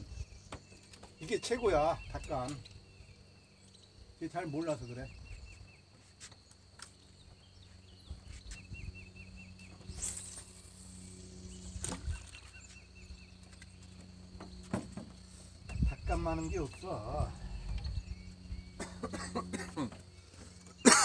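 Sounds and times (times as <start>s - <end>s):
bird chirping: 0.0s - 21.0s
low steady hum: 0.0s - 21.0s.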